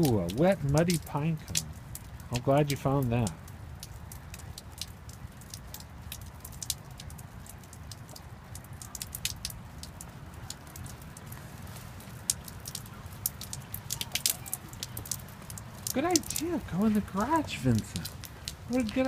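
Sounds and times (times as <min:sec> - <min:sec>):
water dripping: 0:00.0 - 0:19.0.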